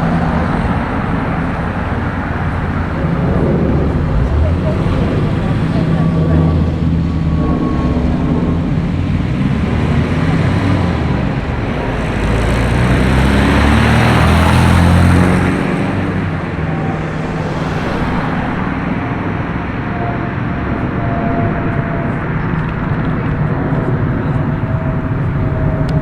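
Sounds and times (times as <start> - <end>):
car passing close: 0.0 - 26.0
road traffic: 0.0 - 26.0.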